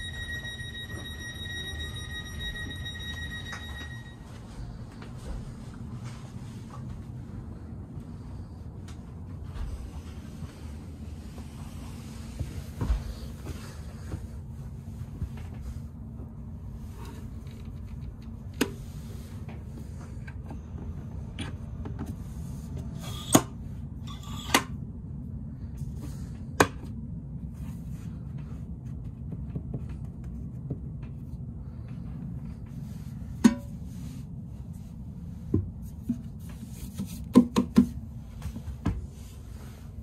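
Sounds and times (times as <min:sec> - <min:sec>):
train rumble inside coach: 0:00.0 - 0:24.1, 0:24.9 - 0:40.0.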